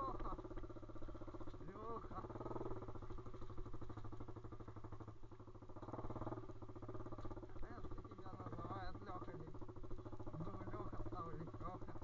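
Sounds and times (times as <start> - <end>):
pit bike engine running: 0.0 - 12.0.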